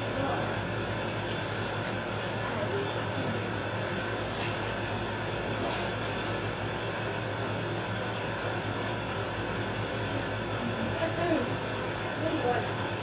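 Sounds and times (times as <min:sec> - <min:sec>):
fan-like background noise: 0:00.0 - 0:13.0
low electrical hum: 0:00.0 - 0:13.0.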